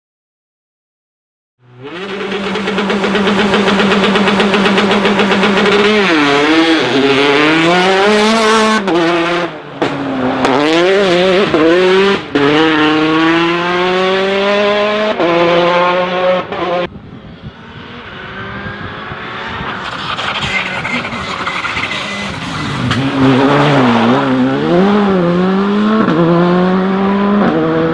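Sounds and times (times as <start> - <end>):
rally car engine revving: 1.6 - 27.9
distant car engine approaching: 1.7 - 27.9.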